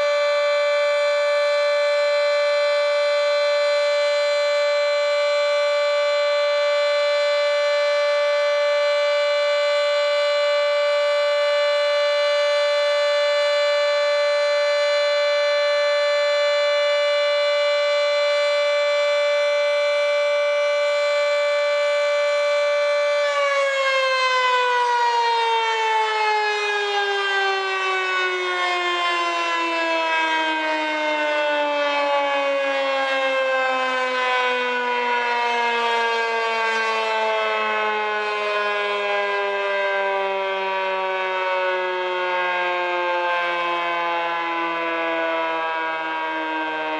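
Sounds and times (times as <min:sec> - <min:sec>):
dual-tone warning siren: 0:00.0 - 0:46.9.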